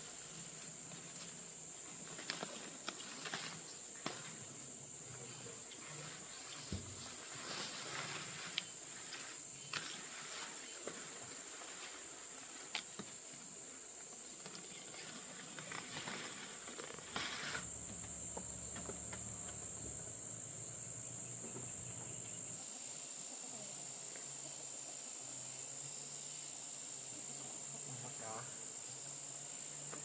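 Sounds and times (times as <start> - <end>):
insects chirring: 0.0 - 30.0
rustle: 0.0 - 30.0.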